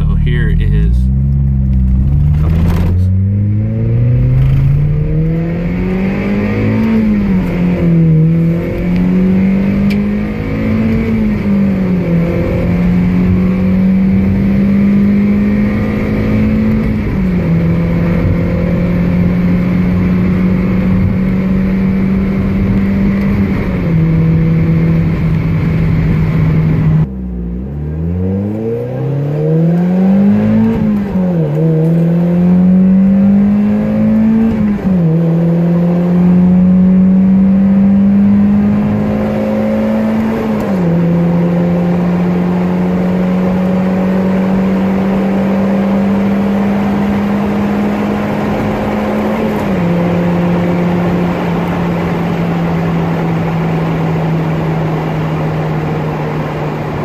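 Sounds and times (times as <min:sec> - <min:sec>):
car engine revving: 0:00.0 - 0:57.0
car engine through exhaust: 0:00.0 - 0:57.0.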